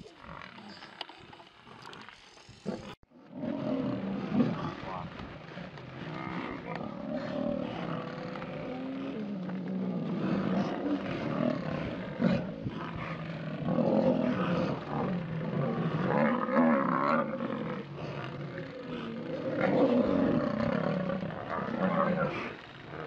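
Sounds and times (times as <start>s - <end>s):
lions growling and snarling: 0.0s - 23.0s.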